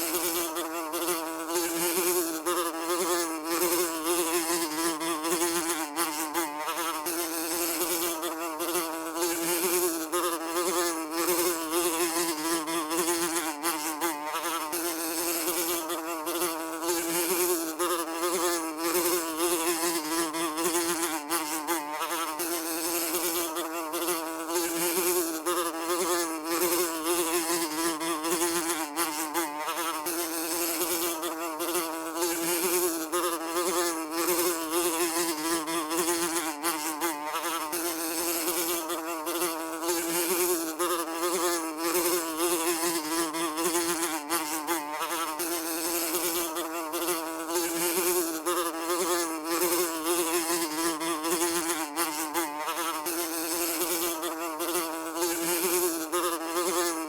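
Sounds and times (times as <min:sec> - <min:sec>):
housefly buzzing: 0:00.0 - 0:57.0.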